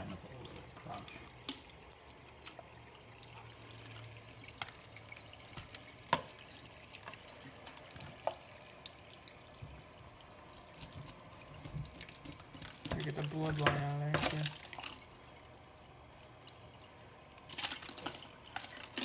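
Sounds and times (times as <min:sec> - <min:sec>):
water trickling in a sink: 0:00.0 - 0:19.0.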